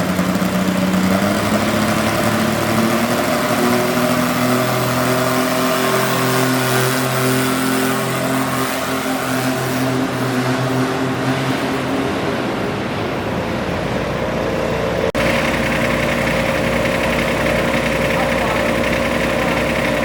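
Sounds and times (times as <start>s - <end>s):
tractor engine running loud: 0.0s - 20.0s.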